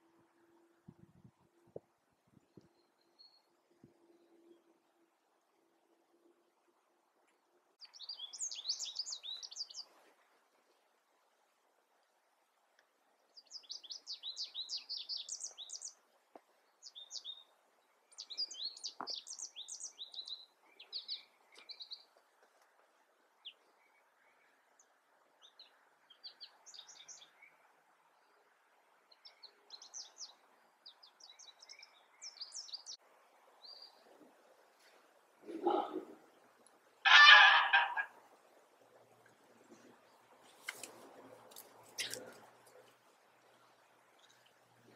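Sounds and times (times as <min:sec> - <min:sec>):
faint background hiss: 0:00.0 - 0:37.1, 0:37.7 - 0:44.9
small songbirds chirping: 0:01.6 - 0:05.5, 0:07.3 - 0:10.8, 0:12.0 - 0:37.0, 0:37.7 - 0:44.9.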